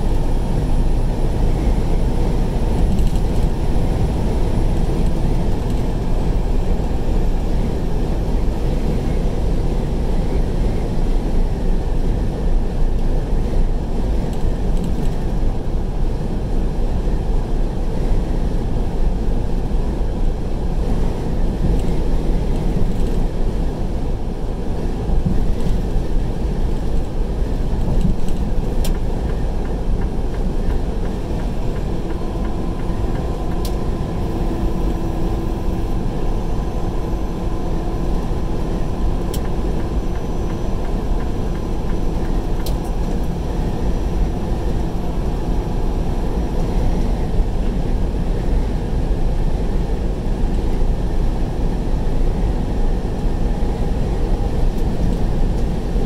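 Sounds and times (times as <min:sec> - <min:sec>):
engine and road noise in cab: 0:00.0 - 0:56.0.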